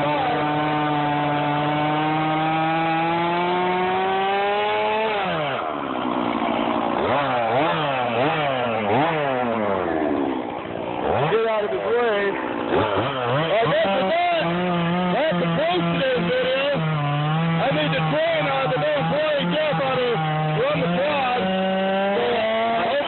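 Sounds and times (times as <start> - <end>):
chainsaw sawing wood: 0.0 - 23.0.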